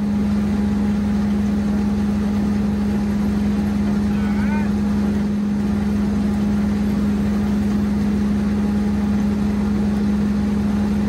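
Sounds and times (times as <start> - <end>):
feed mixer humming: 0.0 - 11.0.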